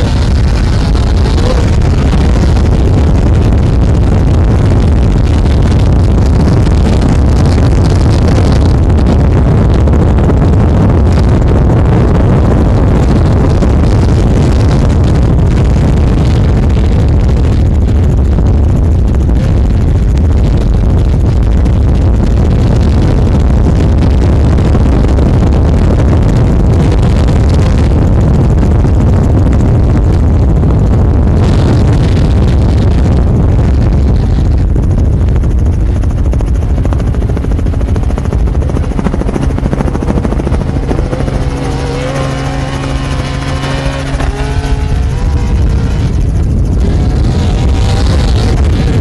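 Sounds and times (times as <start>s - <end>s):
truck engine running hard: 0.0s - 49.0s.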